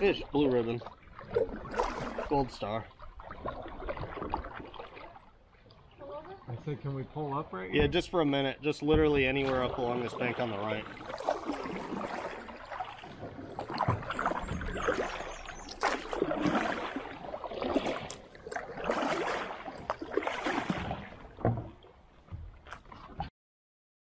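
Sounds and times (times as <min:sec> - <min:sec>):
kayak paddle splashing: 0:00.0 - 0:23.3.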